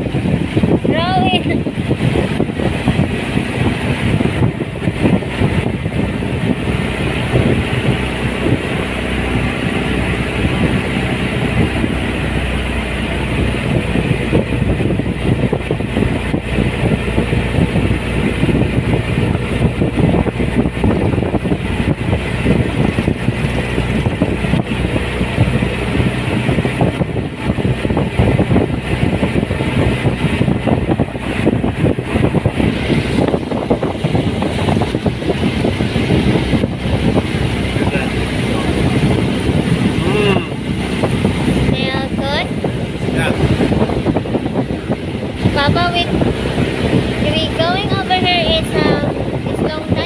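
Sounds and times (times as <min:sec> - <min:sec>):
motorboat engine running: 0:00.0 - 0:50.0.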